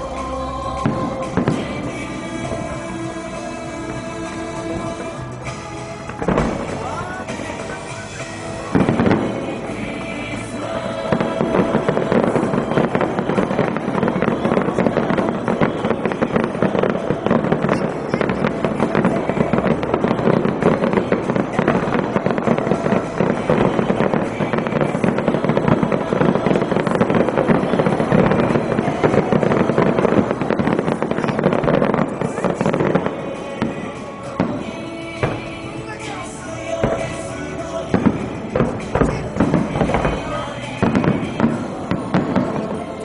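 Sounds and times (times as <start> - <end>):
fireworks bursting and crackling: 0.0 - 43.0.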